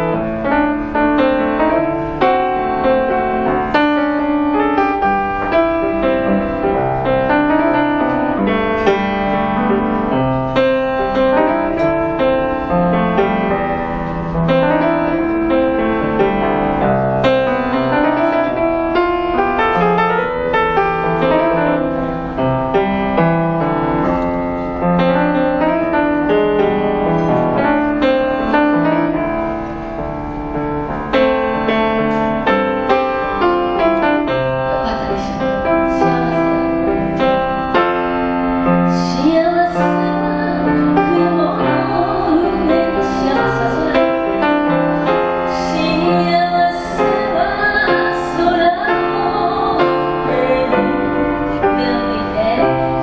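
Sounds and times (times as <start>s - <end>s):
piano melody: 0.0s - 53.0s.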